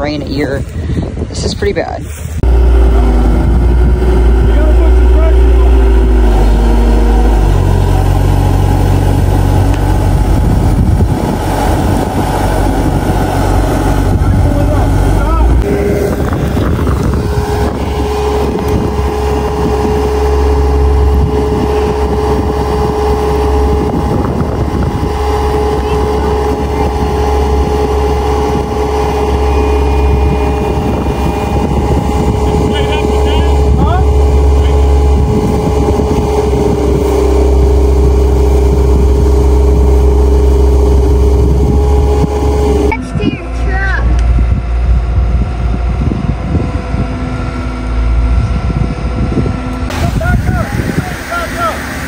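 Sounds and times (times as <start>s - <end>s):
diesel engine running: 0.0s - 52.0s
steady whine: 1.4s - 52.0s.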